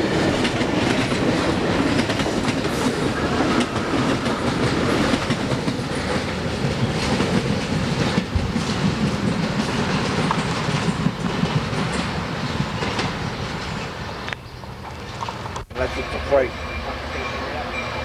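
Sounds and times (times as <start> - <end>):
train wheels clicking over rail joints: 0.0 - 16.0
train rolling noise: 0.0 - 18.0.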